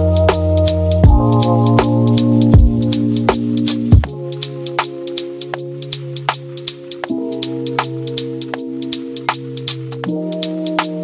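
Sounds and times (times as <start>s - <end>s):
held music chords: 0.0s - 11.0s
light ticking percussion beat: 0.0s - 11.0s.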